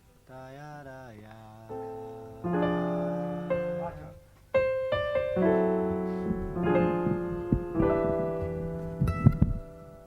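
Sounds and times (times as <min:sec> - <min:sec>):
keyboard playing slow chords: 0:01.7 - 0:10.0.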